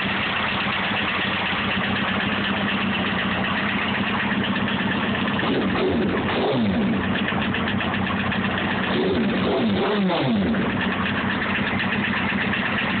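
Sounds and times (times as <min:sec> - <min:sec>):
motorcycle engine idling: 0:00.0 - 0:13.0
ticking engine knock: 0:00.0 - 0:13.0.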